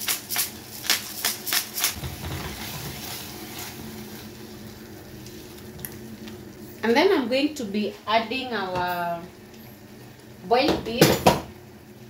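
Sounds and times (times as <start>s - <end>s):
stew sizzling: 0.0s - 12.0s.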